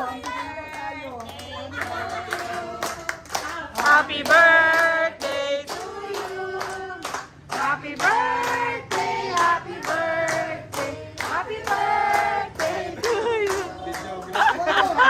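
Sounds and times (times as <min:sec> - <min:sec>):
people clapping in time: 0:00.0 - 0:15.0
people singing a birthday tune: 0:00.0 - 0:15.0.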